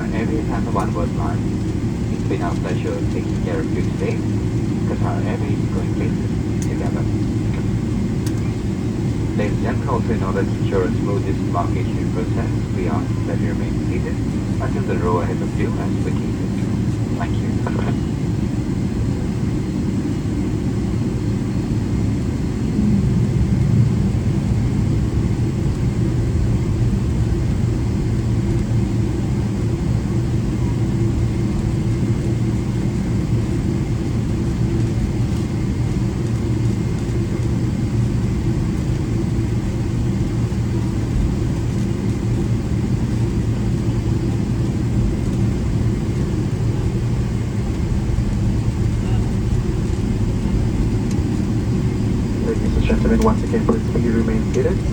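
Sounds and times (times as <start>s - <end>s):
airplane taxiing rumble: 0.0s - 54.9s.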